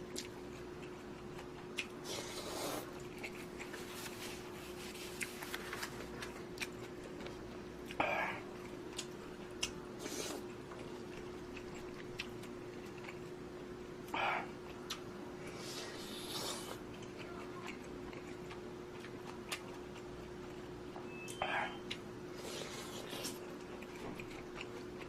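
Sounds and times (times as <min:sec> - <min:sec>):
faint steady hum: 0:00.0 - 0:25.0
person chewing food: 0:00.0 - 0:25.0.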